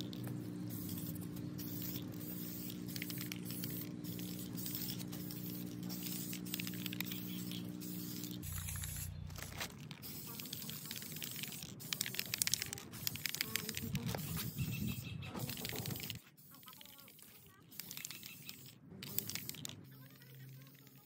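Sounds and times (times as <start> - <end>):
steady low hum: 0.0 - 21.0
spray can hissing bursts: 0.1 - 21.0.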